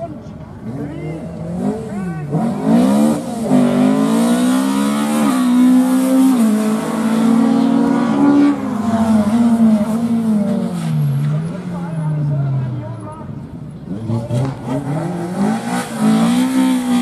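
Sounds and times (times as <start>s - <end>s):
rally car engine revving: 0.0s - 12.8s, 13.4s - 17.0s.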